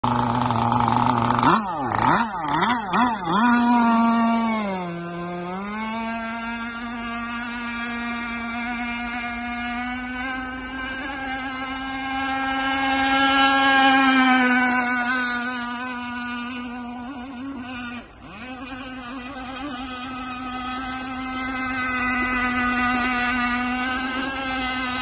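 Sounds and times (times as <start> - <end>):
small gasoline engine revving: 0.0 - 25.0.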